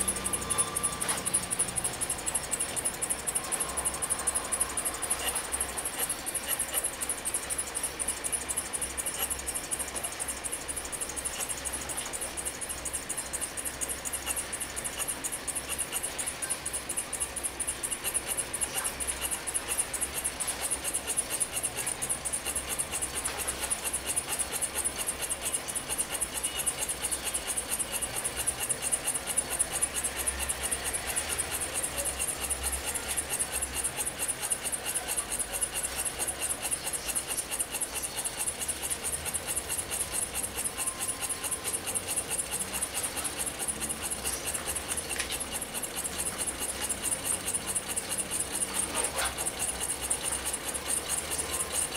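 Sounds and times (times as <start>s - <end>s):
stirling engine rapid ticking: 0.0s - 51.9s.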